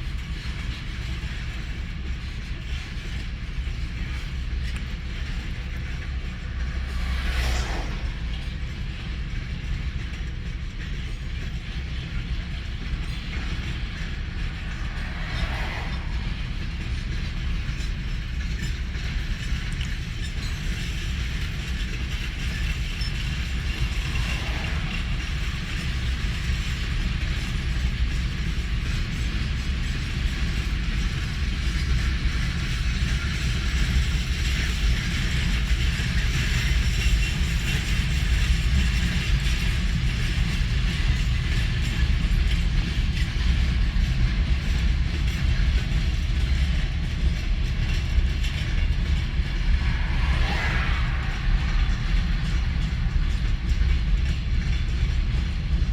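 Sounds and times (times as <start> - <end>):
freight train rumbling: 0.0 - 55.9
wheels clicking on rails: 0.0 - 55.9.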